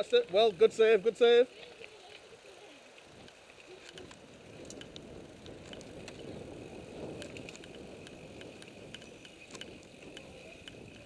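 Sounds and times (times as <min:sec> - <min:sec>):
bike tyres rumbling over dirt: 0:00.0 - 0:11.0
bike clicks and rattles: 0:01.5 - 0:11.0.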